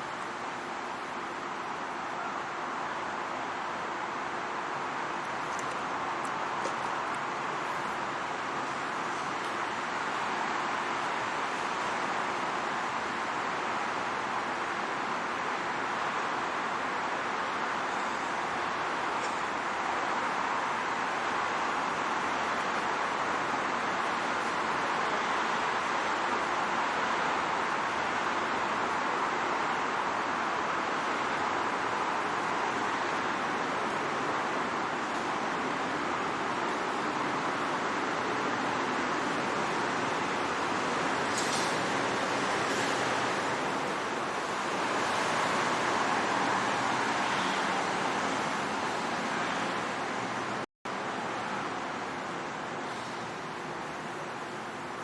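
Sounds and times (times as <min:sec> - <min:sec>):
city traffic: 0:00.0 - 0:55.0.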